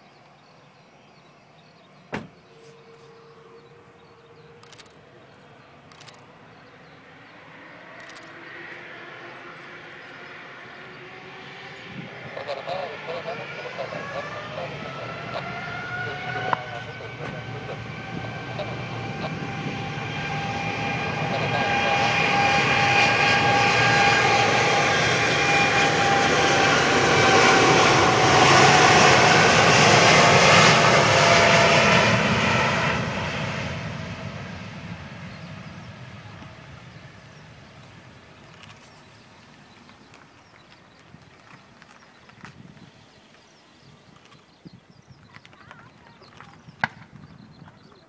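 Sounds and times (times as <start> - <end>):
jet airliner taking off: 1.4 - 48.0.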